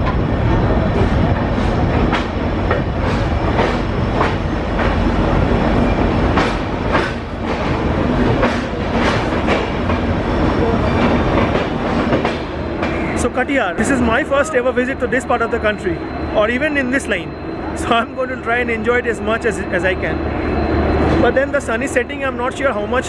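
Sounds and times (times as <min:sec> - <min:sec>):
train rumbling at speed: 0:00.0 - 0:23.0.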